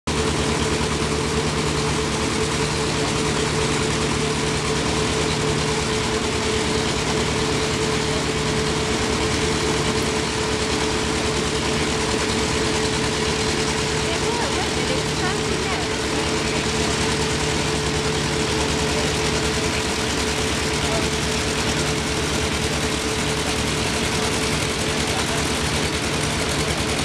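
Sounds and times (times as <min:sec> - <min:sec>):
boat engine idling: 0:00.1 - 0:27.0.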